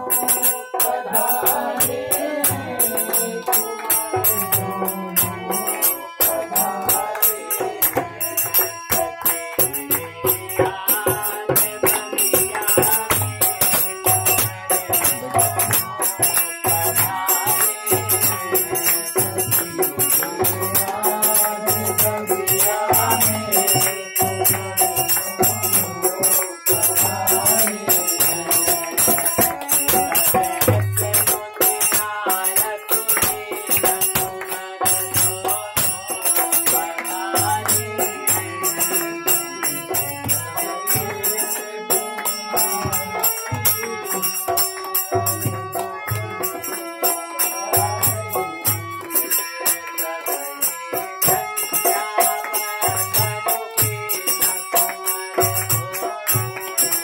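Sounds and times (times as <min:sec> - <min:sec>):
harmonium: 0:00.0 - 0:57.0
voices singing: 0:00.0 - 0:57.0.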